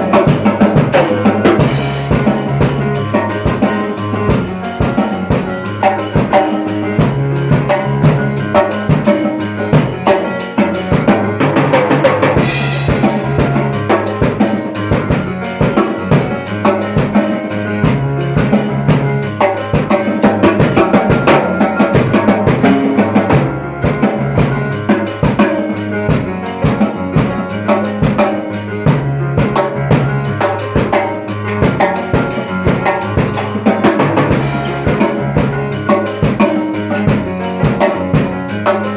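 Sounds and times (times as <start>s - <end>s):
bass line: 0.0s - 38.9s
drum kit steady beat: 0.0s - 38.9s
pitched instruments: 0.0s - 38.9s.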